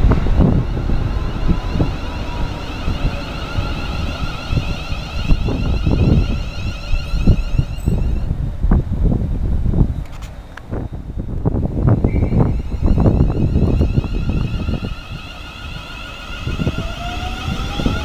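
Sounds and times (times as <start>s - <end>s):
rising electric whines: 0.0s - 8.4s, 11.7s - 18.0s
train rumble: 0.0s - 18.0s
wind buffeting microphone: 0.0s - 18.0s.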